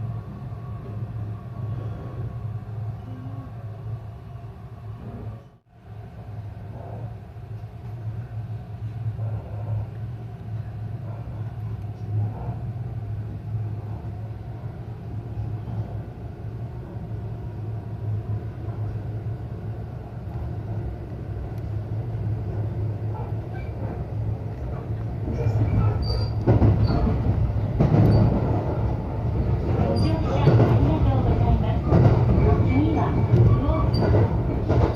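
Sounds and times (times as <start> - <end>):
electric train hum and rumble: 0.0 - 34.9.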